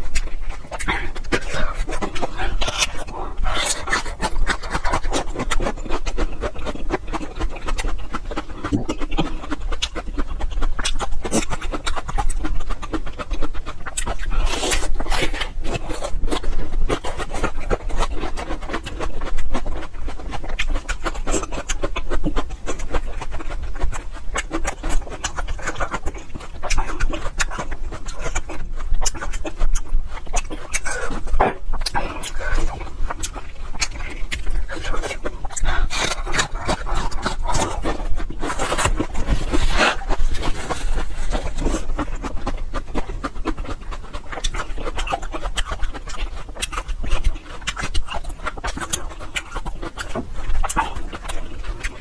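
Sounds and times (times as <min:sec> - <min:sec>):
crunching and chewing: 0:00.0 - 0:52.0.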